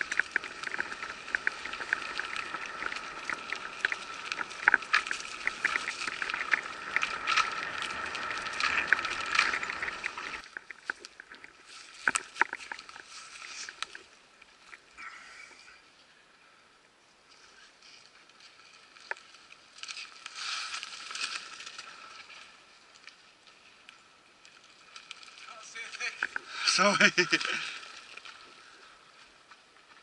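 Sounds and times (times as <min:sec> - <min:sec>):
bike tyre noise on dirt: 0:00.0 - 0:15.8, 0:17.4 - 0:30.0.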